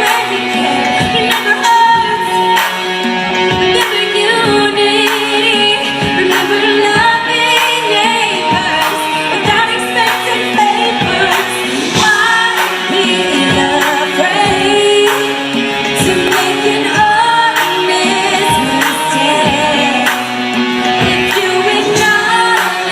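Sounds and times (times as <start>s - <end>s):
band playing pop song: 0.0s - 22.9s
steady drum beat: 0.0s - 22.9s
woman singing: 0.0s - 22.9s.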